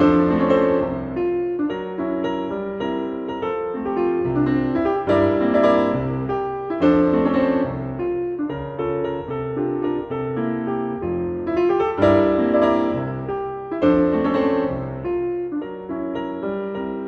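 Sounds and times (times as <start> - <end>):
piano music with bass line: 0.0 - 17.0.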